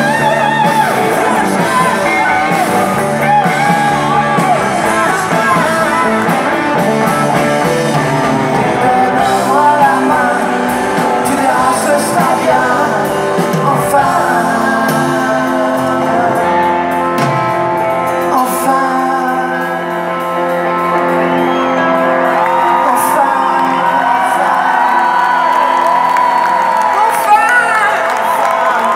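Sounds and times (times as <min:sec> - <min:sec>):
drums: 0:00.0 - 0:28.9
electric guitars: 0:00.0 - 0:28.9
person singing: 0:00.0 - 0:28.9.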